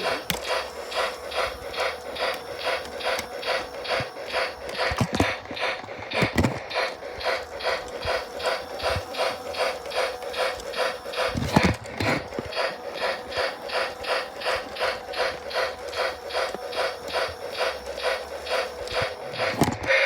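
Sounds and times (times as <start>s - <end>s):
constant hum: 0.0s - 20.0s
toy train mechanical pulsing: 0.0s - 20.0s.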